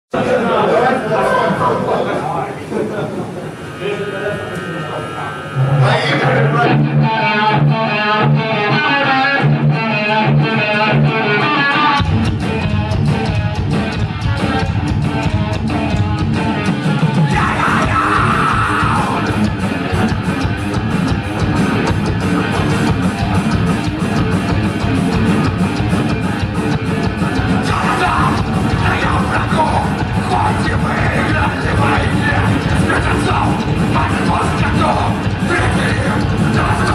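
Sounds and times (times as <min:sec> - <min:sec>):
electric guitar riff: 0:02.6 - 0:36.9
metal band playing live: 0:03.5 - 0:36.9.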